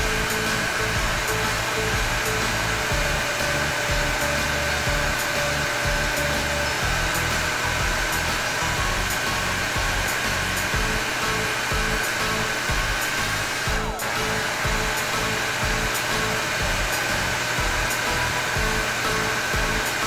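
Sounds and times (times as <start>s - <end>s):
background music with beat: 0.0s - 20.0s
toy hair dryer whirring: 0.0s - 20.0s.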